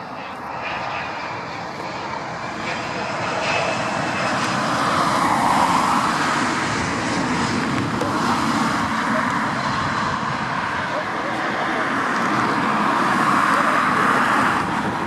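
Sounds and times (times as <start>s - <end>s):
jet engines passing by: 0.0s - 15.0s.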